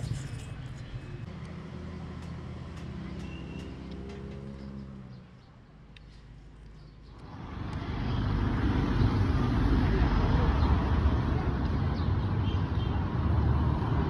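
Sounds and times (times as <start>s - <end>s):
passing traffic rumble: 0.0s - 14.0s.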